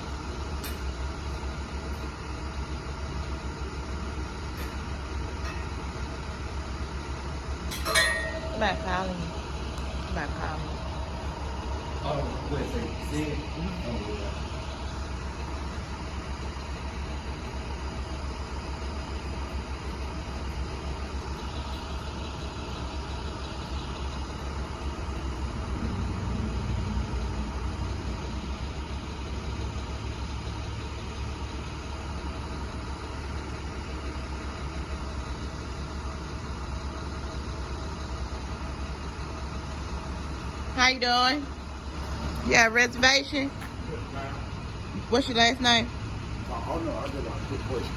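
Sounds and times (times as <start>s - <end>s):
truck engine rumbling: 0.0s - 47.9s.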